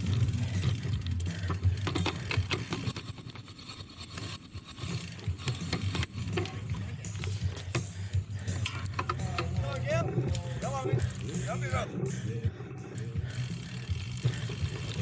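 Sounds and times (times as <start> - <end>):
bike rumbling and rattling: 0.0 - 15.0
rapid ticking: 0.0 - 15.0.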